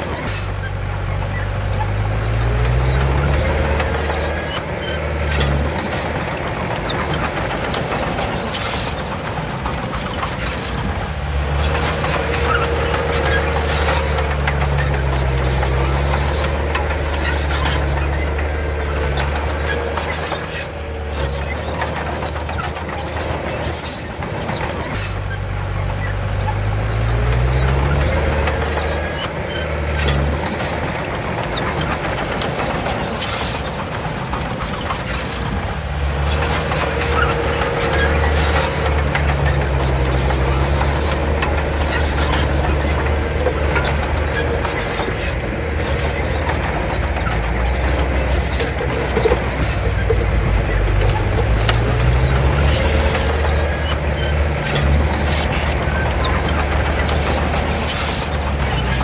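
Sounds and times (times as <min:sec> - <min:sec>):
bulldozer diesel engine revving: 0:00.0 - 0:59.0
steel tracks squealing and clanking: 0:00.0 - 0:59.0.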